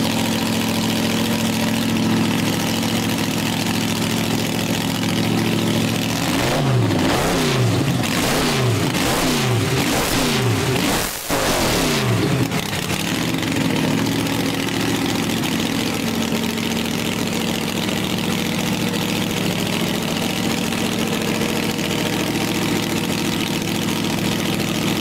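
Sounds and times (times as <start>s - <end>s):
dragster engine idling: 0.0s - 10.9s, 12.0s - 25.0s.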